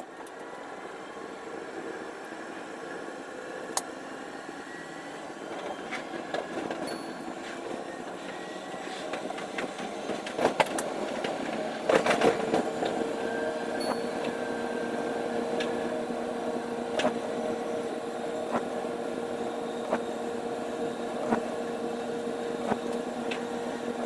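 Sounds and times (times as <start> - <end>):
electric train rumble: 0.0 - 24.0
faint humming tones: 0.0 - 24.0.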